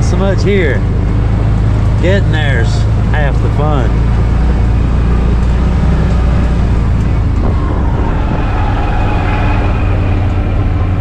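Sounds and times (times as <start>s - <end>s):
off-road vehicle engine drone: 0.0s - 11.0s.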